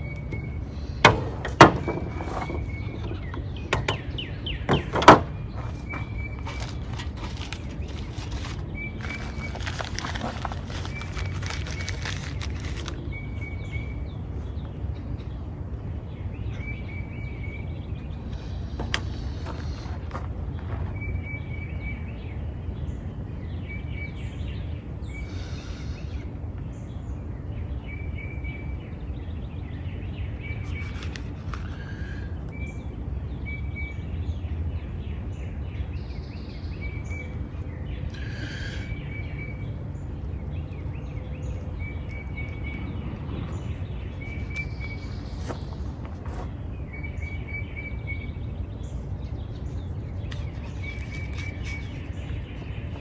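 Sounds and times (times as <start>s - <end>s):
birds chirping: 0.0s - 53.0s
steady low background rumble: 0.0s - 53.0s.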